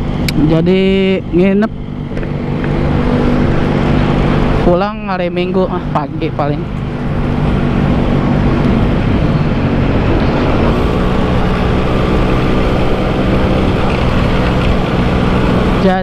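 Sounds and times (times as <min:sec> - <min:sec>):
motorcycle two-stroke engine running: 0:00.0 - 0:16.0.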